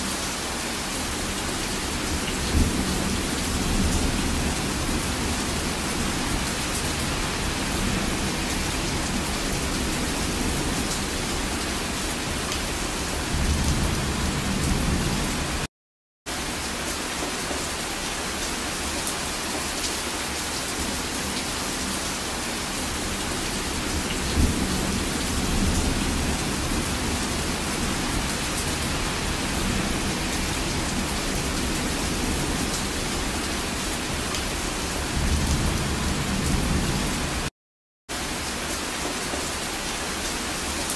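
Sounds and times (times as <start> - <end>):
heavy rain falling: 0.0 - 15.7, 16.3 - 37.5, 38.1 - 40.9.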